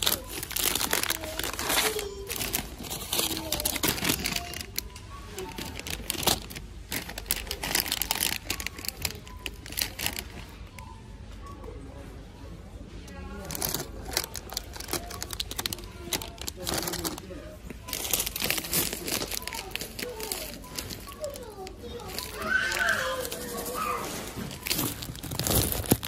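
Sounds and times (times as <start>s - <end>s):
plastic packets crinkling: 0.0s - 10.8s, 13.3s - 26.0s
faint music: 0.0s - 26.0s
faint voices: 0.0s - 26.0s.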